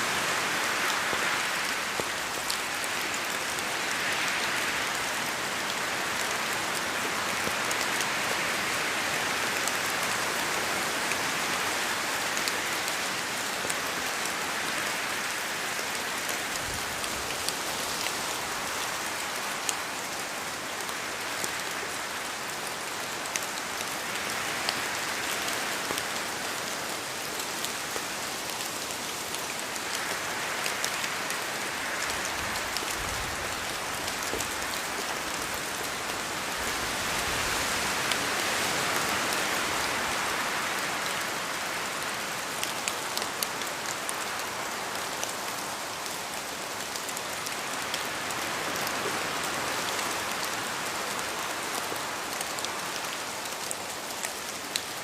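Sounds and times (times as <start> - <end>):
rain pattering on leaves: 0.0 - 55.0
wind rushing through trees: 0.0 - 55.0.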